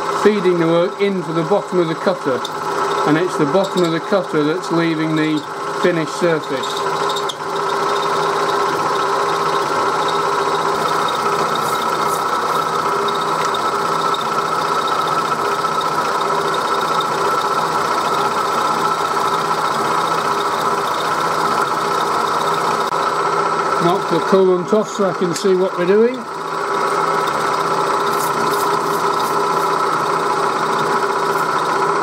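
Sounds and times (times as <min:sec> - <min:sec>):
milling machine cutting metal: 0:00.0 - 0:32.0.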